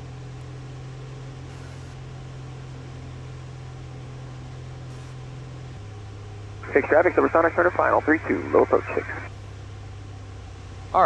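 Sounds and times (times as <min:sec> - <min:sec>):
light aircraft engine and propeller: 0:00.0 - 0:11.0.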